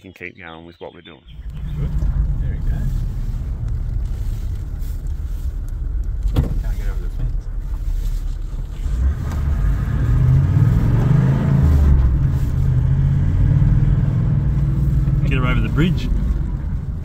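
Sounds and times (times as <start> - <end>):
road noise: 1.2 - 17.0
vehicle engine: 1.3 - 17.0.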